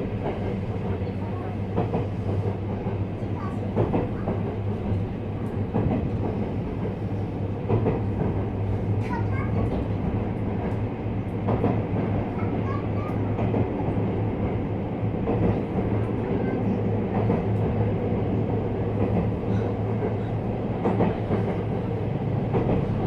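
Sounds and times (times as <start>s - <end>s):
train running rumble and hum: 0.0s - 23.0s.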